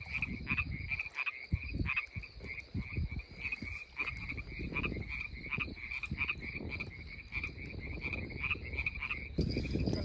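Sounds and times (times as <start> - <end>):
frogs croaking: 0.0 - 10.0.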